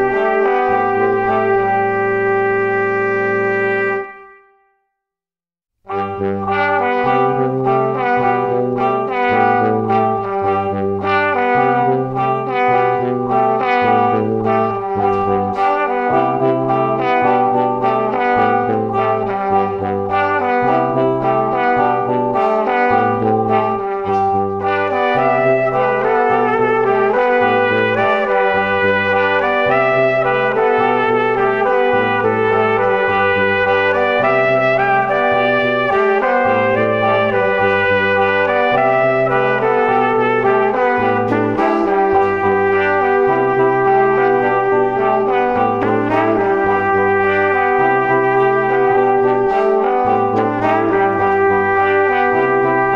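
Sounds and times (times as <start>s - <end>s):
low bass notes: 0.0s - 4.1s, 5.9s - 52.9s
instrumental background music: 0.0s - 4.6s, 5.9s - 52.9s.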